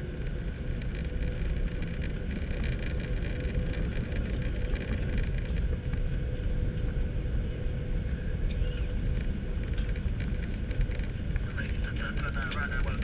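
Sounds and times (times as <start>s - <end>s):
aircraft rolling rumble: 0.0s - 13.0s
faint steady hum: 0.0s - 13.0s.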